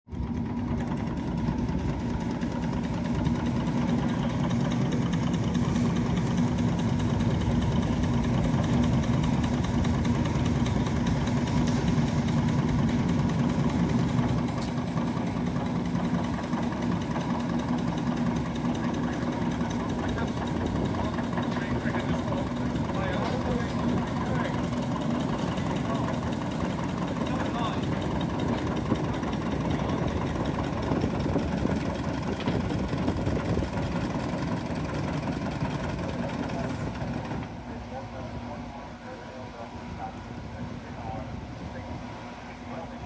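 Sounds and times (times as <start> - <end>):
engine hum: 0.1 - 43.0.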